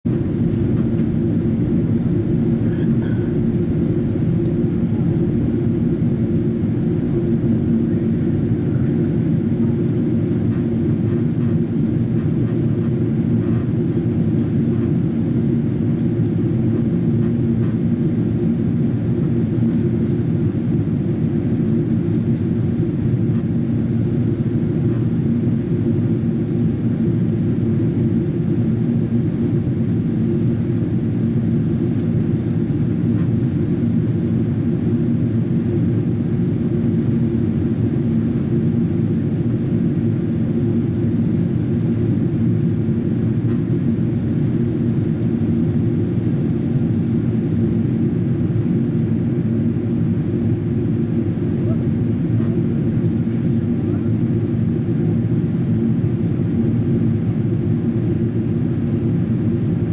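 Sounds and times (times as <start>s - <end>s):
aircraft cabin engine rumble: 0.1s - 59.9s.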